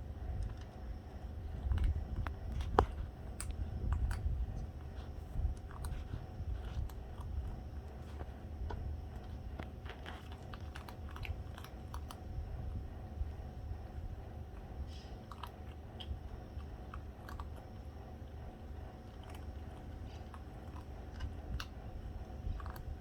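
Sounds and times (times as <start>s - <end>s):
cats crunching dry food: 0.0s - 23.0s.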